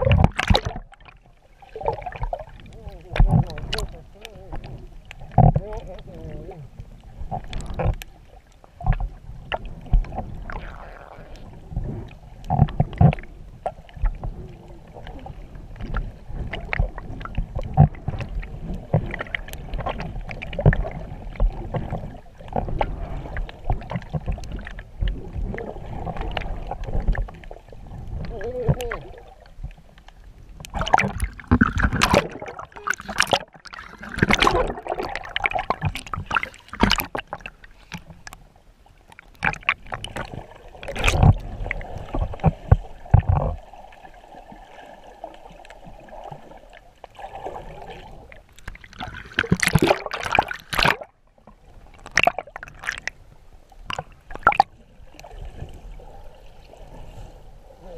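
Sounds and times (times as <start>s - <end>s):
water sloshing and gurgling: 0.0s - 57.9s.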